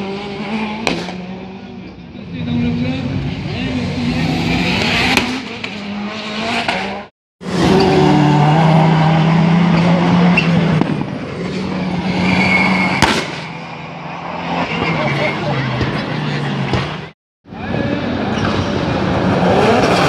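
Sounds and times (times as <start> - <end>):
race car engines running hard: 0.0 - 20.0.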